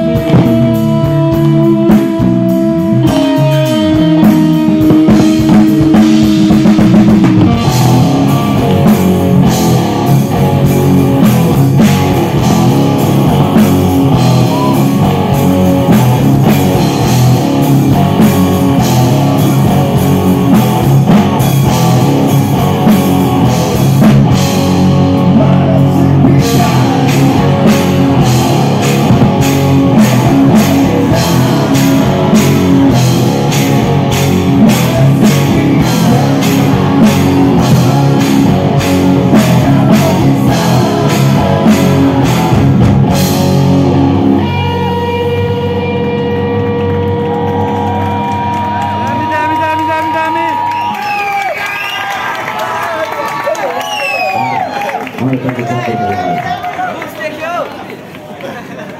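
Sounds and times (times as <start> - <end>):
drum kit beat: 0.0 - 51.5
distorted electric guitars: 0.0 - 52.2.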